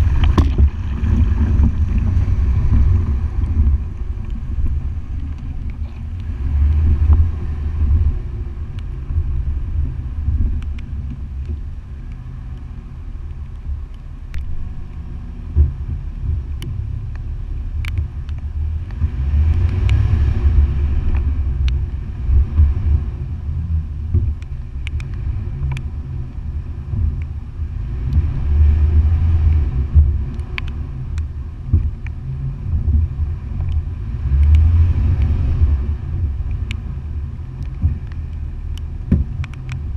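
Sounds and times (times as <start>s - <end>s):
car engine rumbling: 0.0s - 39.9s
water washing against vehicle: 0.0s - 39.9s.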